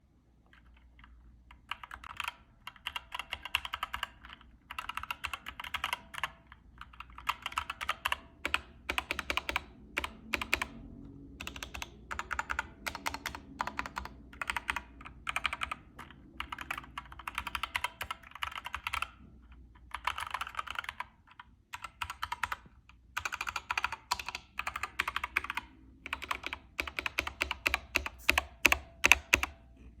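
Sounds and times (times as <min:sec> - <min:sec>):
mechanical keyboard typing: 0:00.5 - 0:29.7.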